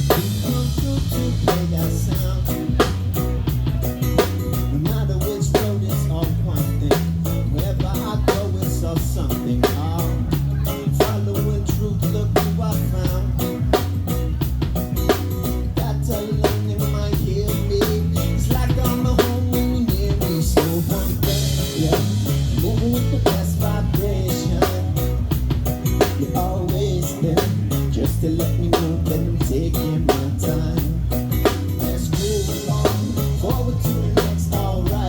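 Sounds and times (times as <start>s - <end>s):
drum kit beat: 0.0s - 35.0s
live band playing: 0.0s - 35.0s.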